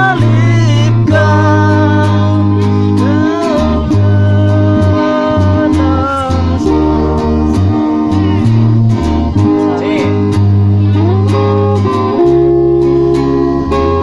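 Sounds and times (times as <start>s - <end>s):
electric bass line: 0.0s - 14.0s
electric guitar melody: 0.0s - 14.0s.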